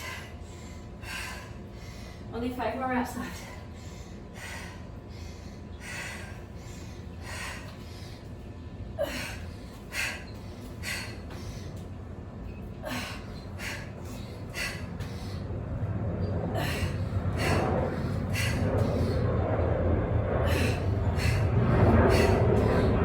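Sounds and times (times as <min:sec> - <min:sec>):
woman breathing hard and gasping: 0:00.0 - 0:02.3, 0:03.2 - 0:11.9, 0:12.8 - 0:15.8, 0:16.4 - 0:19.5, 0:20.2 - 0:23.0.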